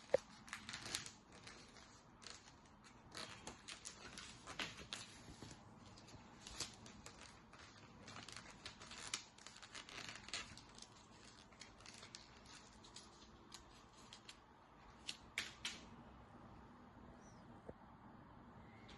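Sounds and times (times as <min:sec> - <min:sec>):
paper crinkling and folding: 0:00.0 - 0:15.8.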